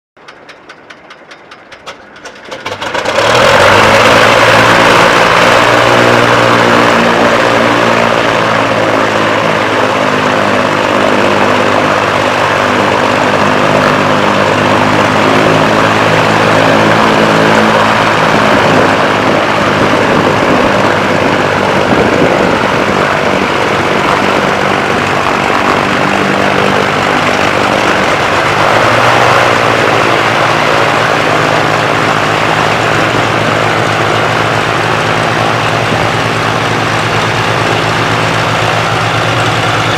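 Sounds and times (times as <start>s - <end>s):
twin propeller aircraft engines: 0.2s - 39.9s.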